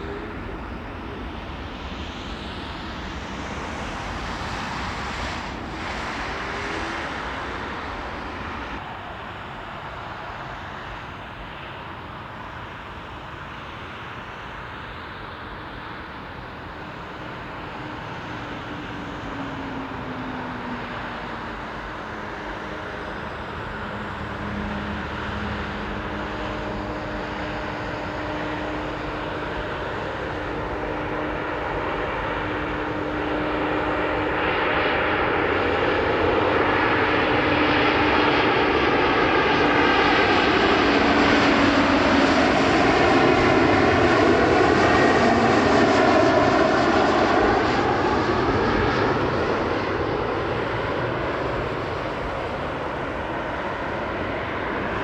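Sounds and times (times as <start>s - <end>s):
jet airliner flying overhead: 0.0s - 55.0s.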